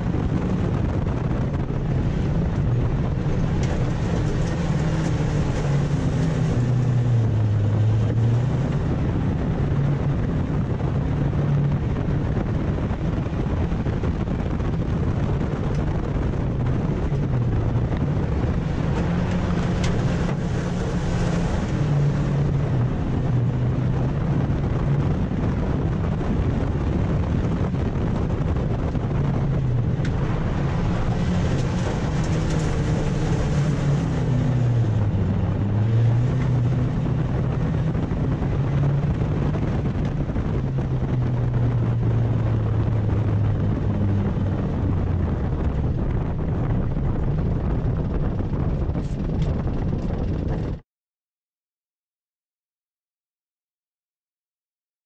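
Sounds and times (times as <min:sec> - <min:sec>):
racing car engine revving: 0:00.0 - 0:13.8, 0:14.4 - 0:46.2.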